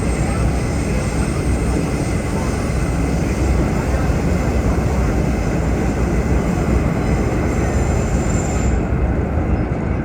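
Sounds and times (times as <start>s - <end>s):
subway car rumbling: 0.0s - 10.0s.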